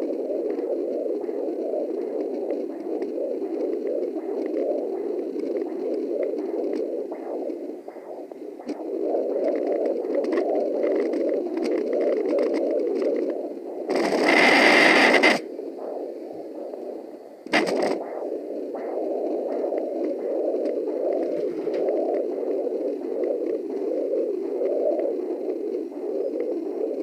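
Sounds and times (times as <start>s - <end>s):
probe crackles on skin: 0.0s - 27.0s
scraping static: 0.0s - 27.0s.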